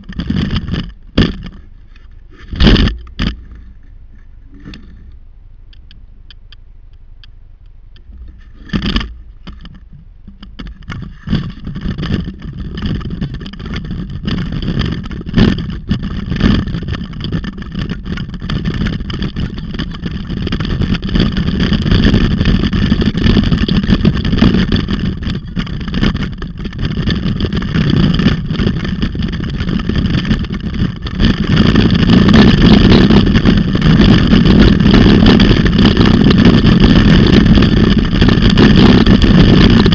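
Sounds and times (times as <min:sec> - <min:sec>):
bike rattling on dirt road: 0:00.0 - 0:05.1, 0:08.0 - 0:39.9
wind rushing over microphone: 0:00.0 - 0:06.0, 0:08.0 - 0:39.9.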